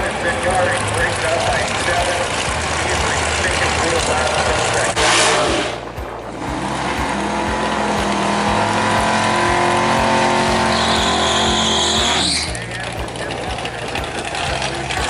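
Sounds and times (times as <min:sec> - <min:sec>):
drag racing car engine revving: 0:00.0 - 0:15.0
high whine: 0:00.0 - 0:15.0.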